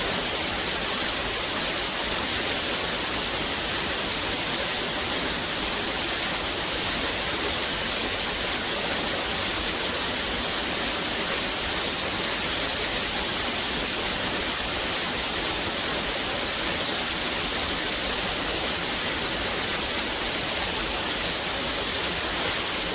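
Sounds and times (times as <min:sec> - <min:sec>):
white noise hiss: 0:00.0 - 0:22.9.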